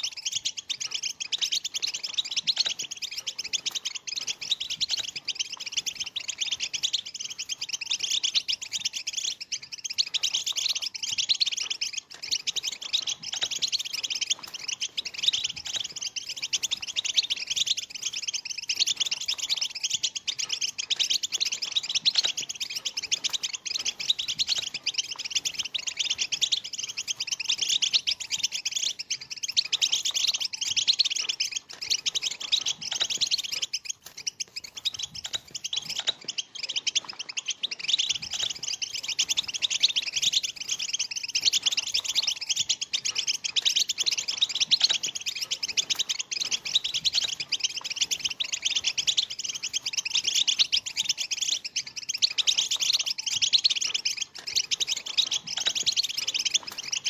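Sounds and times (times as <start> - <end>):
goldfinches twittering and chirping: 0.0 - 57.0.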